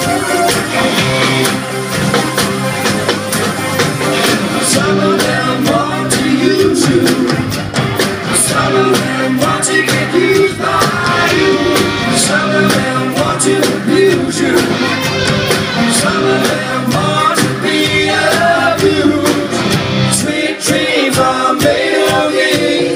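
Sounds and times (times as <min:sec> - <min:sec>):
live rock band playing: 0:00.0 - 0:22.9
steady drum beat: 0:00.0 - 0:22.9
lead vocal singing: 0:04.2 - 0:22.9.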